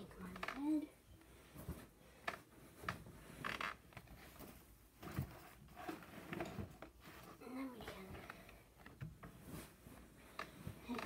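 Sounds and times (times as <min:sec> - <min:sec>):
fabric rustling: 0:00.2 - 0:11.0.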